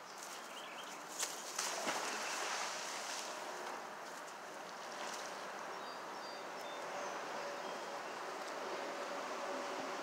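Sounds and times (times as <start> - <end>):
creek water flowing: 0.2 - 10.0.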